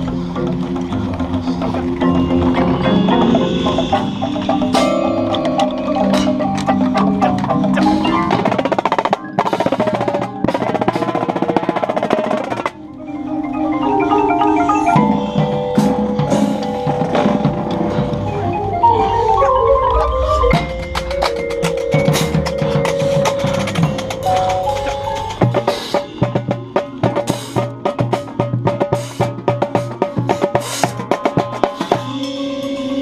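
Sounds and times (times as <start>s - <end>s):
marching drums: 0.0s - 12.8s, 15.0s - 18.6s, 20.0s - 32.3s
marimbas and mallet keyboards: 0.0s - 33.0s.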